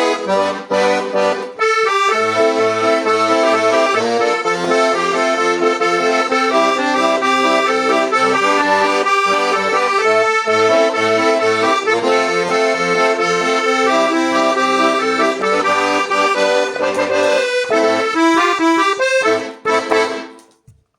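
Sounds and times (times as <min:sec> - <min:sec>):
accordion playing: 0:00.0 - 0:20.6.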